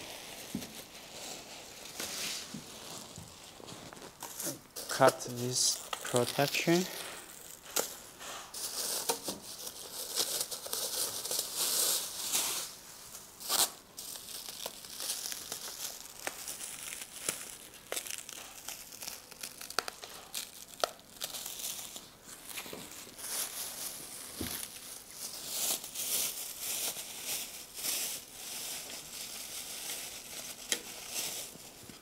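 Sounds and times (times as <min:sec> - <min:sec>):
plastic wrap crinkling and tearing: 0:00.0 - 0:32.0.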